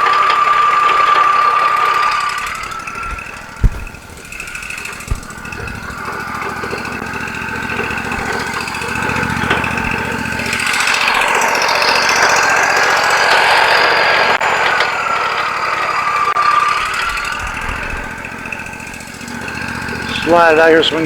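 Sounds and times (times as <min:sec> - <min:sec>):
hissing whine: 0:00.0 - 0:21.0
sawmill engine droning: 0:00.0 - 0:21.0.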